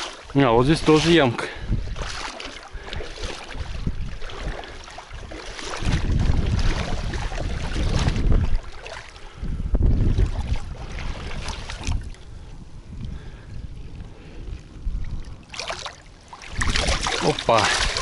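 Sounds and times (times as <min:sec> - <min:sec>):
wading through shallow water: 0:00.0 - 0:18.0
wind rumbling on microphone: 0:00.0 - 0:18.0.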